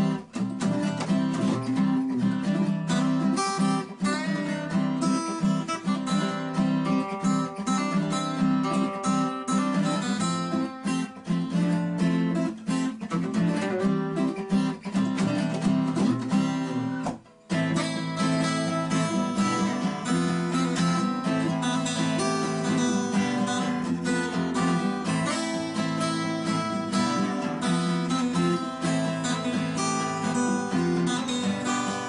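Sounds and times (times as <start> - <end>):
strummed acoustic guitar: 0.0 - 32.0.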